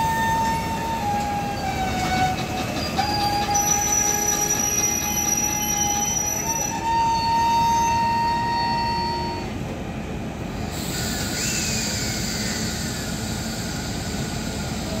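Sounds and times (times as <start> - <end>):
high wheel squeal: 0.0 - 9.5, 10.8 - 15.0
freight wagons rumbling on rails: 0.0 - 15.0.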